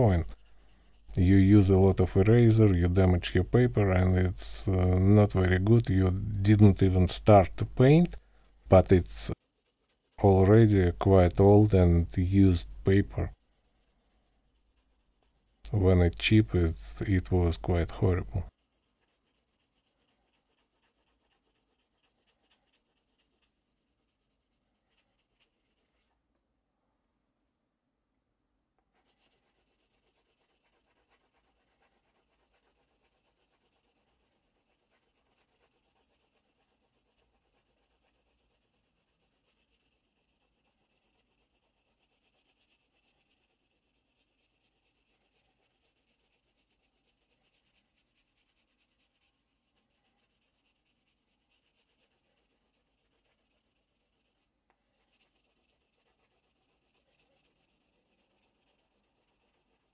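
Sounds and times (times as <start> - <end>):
pencil scratching on paper: 0.0 - 26.1, 28.9 - 59.9.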